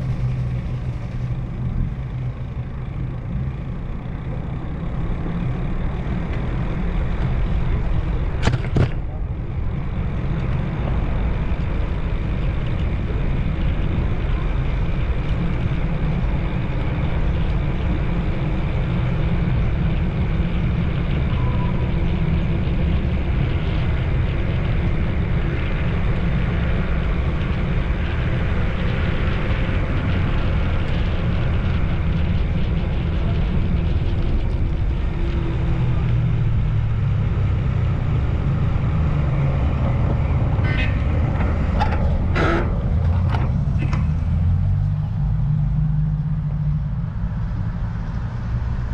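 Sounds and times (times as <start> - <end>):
road vehicle rumble: 0.0 - 48.9.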